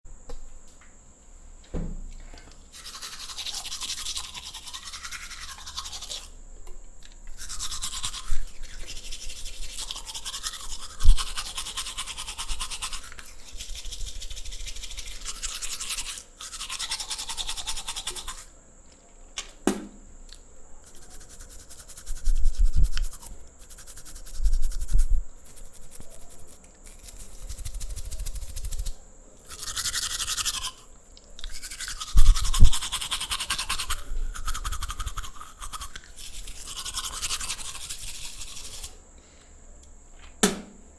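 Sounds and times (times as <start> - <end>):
toothbrush scrubbing teeth: 2.7 - 6.4, 7.3 - 18.5, 20.8 - 39.0.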